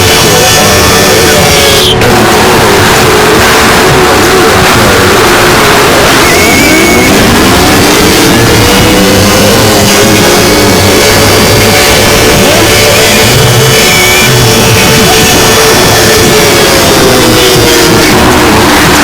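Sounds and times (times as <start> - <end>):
distorted siren tones: 0.0 - 19.0
harsh distortion noise: 0.0 - 19.0.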